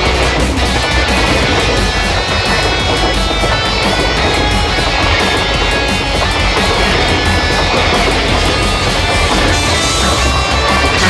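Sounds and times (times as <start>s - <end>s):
background music: 0.0s - 11.0s
freight train rumble: 0.0s - 11.0s.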